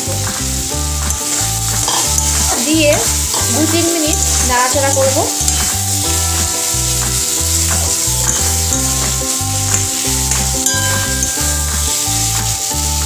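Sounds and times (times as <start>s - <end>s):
food sizzling in oil: 0.0s - 13.0s
metal spatula stirring in wok: 1.1s - 13.0s.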